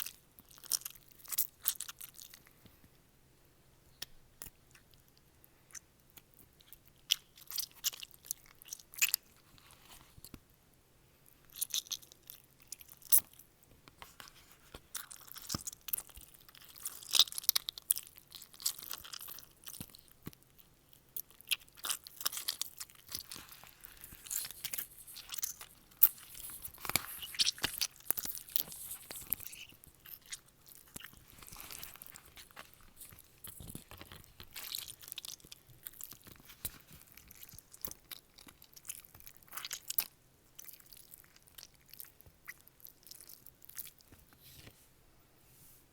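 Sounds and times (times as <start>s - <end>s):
crunching and chewing: 0.0s - 2.7s, 4.0s - 10.4s, 11.2s - 44.4s.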